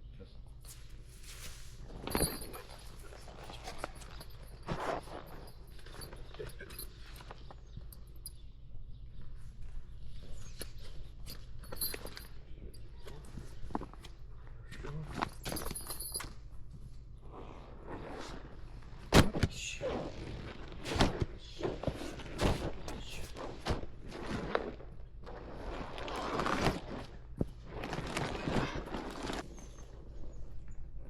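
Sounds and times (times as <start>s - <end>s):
rustling: 0.5s - 8.4s, 9.1s - 31.0s.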